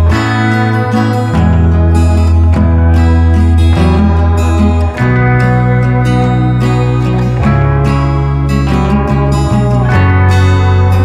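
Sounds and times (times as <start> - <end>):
plucked acoustic guitar: 0.0 - 11.0
sustained low notes: 0.0 - 11.0.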